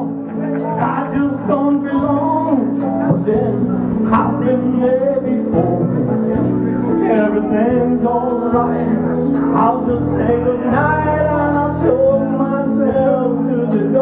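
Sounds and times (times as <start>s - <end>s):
backing track music: 0.0s - 14.0s
men singing karaoke: 0.0s - 14.0s.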